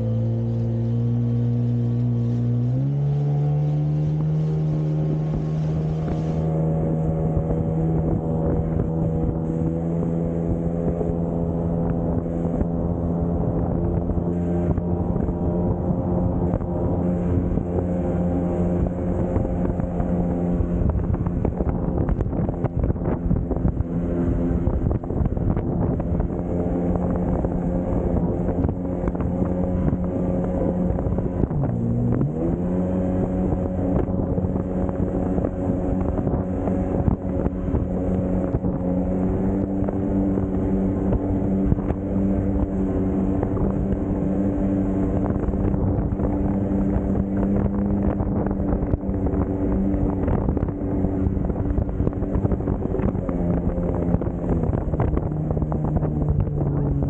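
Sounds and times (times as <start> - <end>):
jet ski engine running: 0.0 - 57.0
wind buffeting microphone: 0.0 - 57.0.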